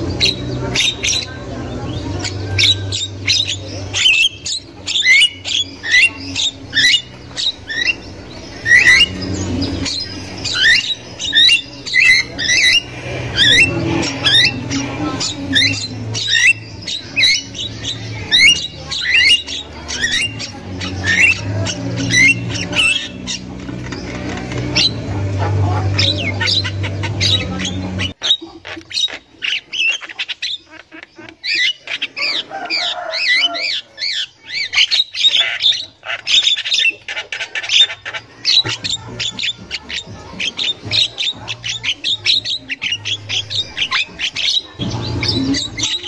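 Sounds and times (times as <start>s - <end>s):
myna bird squawking: 0.0s - 46.0s.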